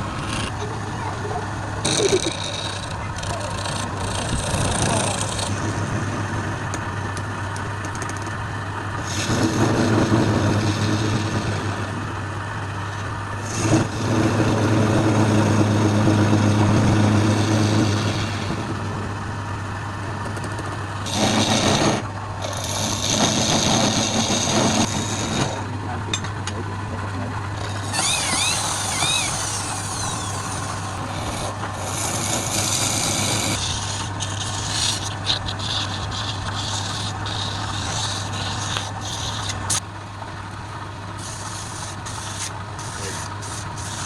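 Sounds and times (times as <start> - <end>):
lathe motor humming: 0.0 - 44.0
tool scraping spinning wood: 0.0 - 44.0.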